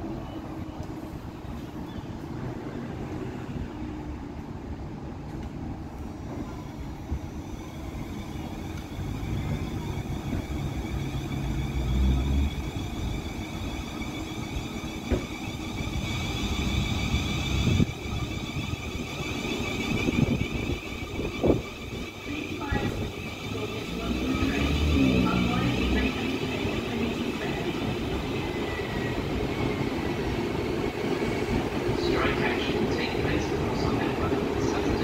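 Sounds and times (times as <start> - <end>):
train traction motor whine: 6.0 - 35.0.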